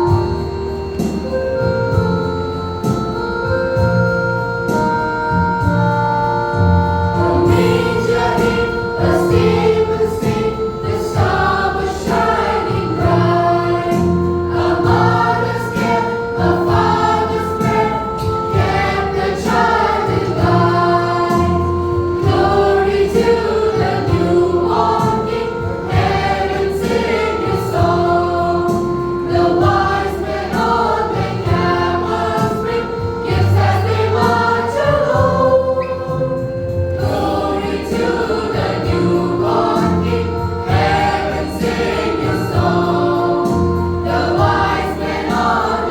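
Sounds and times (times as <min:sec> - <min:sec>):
instrumental accompaniment with beat: 0:00.0 - 0:45.9
children's choir singing: 0:06.6 - 0:45.9.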